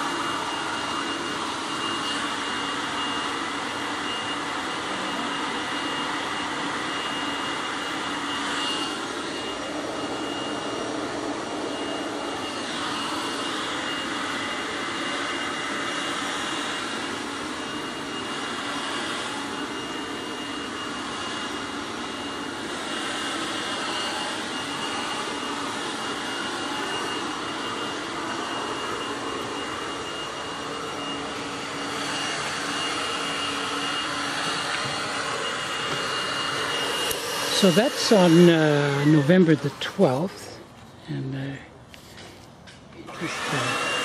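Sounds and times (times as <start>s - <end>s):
leaf blower running: 0.0s - 44.0s.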